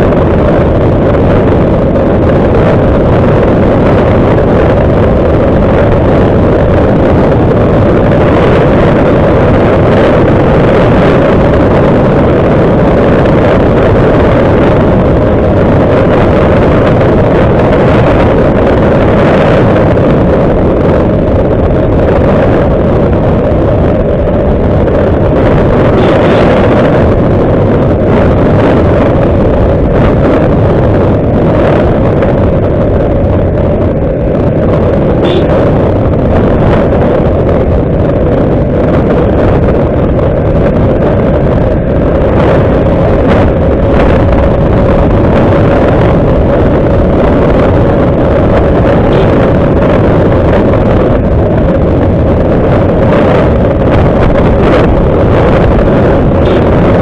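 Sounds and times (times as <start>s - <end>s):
motorbike engine drone: 0.0s - 57.0s
wind buffeting microphone: 0.0s - 57.0s.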